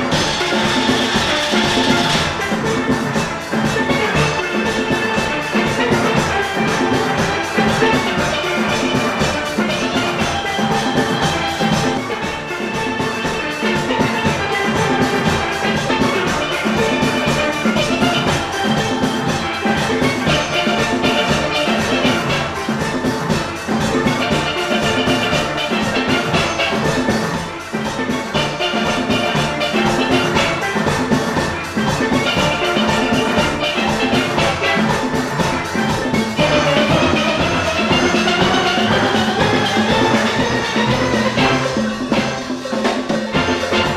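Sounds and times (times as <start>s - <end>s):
drums and percussion: 0.0s - 43.9s
steel band playing: 0.0s - 43.9s.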